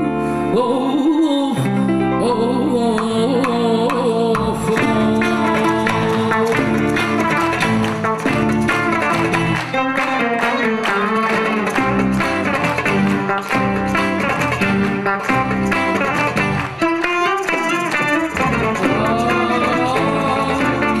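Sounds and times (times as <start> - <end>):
bass guitar: 0.0 - 21.0
plucked string instruments: 0.0 - 21.0.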